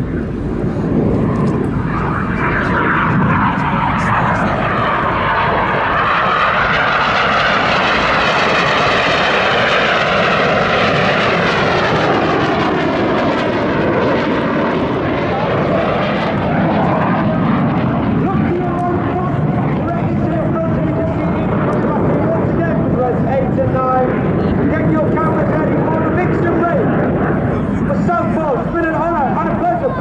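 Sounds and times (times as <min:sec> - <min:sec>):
jets flying past: 0:00.0 - 0:30.0.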